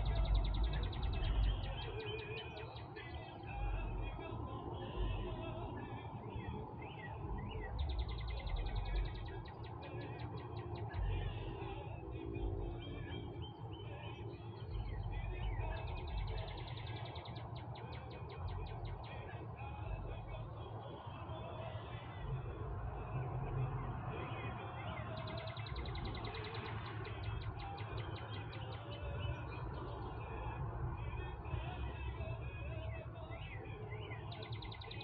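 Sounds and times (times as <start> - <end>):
bird trill: 0.0 - 22.0, 23.8 - 35.0
songbirds singing: 0.0 - 35.0.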